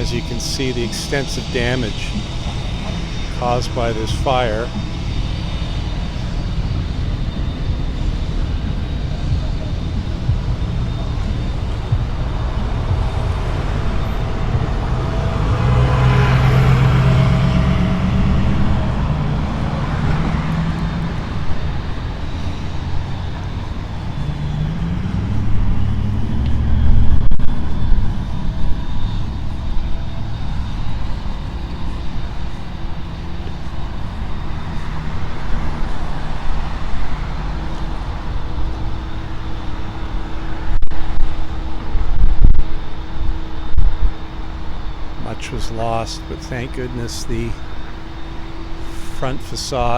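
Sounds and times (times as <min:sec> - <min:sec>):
cars and trucks passing: 0:00.0 - 0:49.9
engine rising in pitch: 0:00.0 - 0:49.9.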